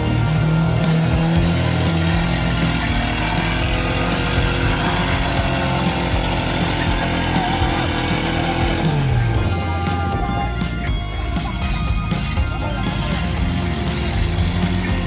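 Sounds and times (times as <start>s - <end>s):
off-road vehicle engine under load: 0.0s - 15.0s.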